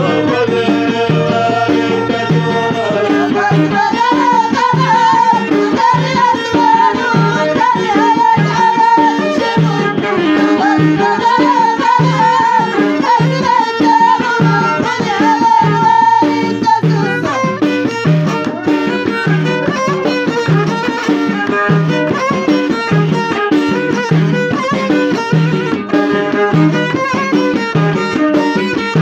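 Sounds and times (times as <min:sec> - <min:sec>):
hand drum beat: 0:00.0 - 0:29.0
ornamented folk melody: 0:00.0 - 0:29.0.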